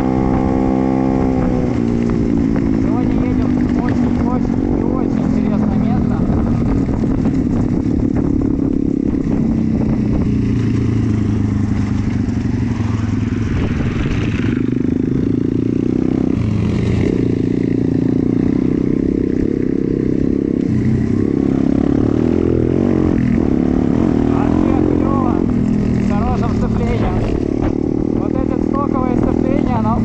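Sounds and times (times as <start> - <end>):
pit bike engine running: 0.0 - 30.0.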